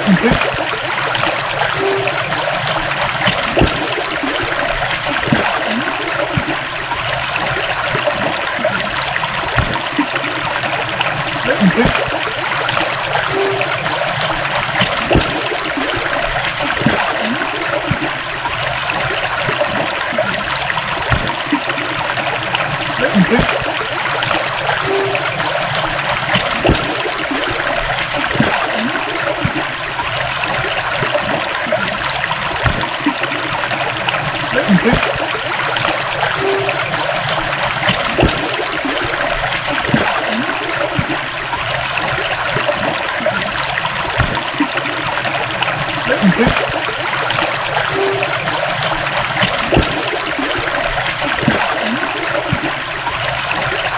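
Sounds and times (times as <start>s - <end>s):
small water splashes: 0.0s - 53.9s
stream trickling and babbling: 0.0s - 53.9s.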